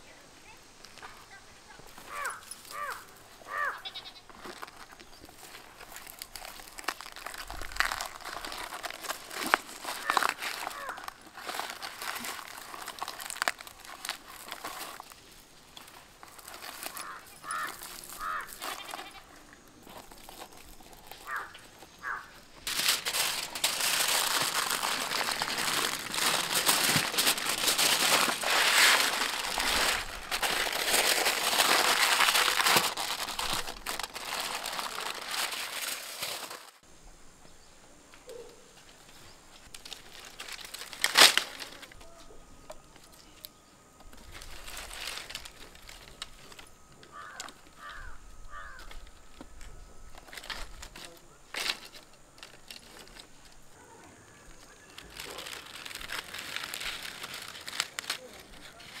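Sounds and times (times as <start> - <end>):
aluminium foil crinkling: 0.8 - 36.8, 38.8 - 53.8, 54.4 - 59.0.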